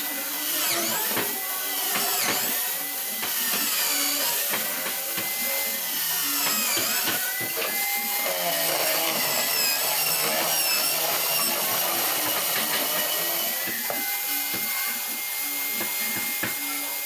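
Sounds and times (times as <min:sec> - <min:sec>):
power tool high whine: 0:00.0 - 0:17.0.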